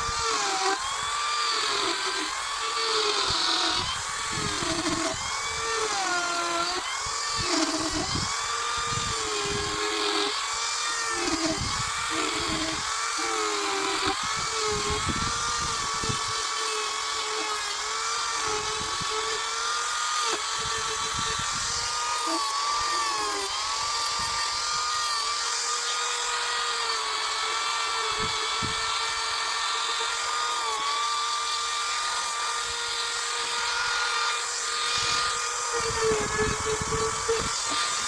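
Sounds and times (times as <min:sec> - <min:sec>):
power tool carving wood: 0:00.0 - 0:38.0.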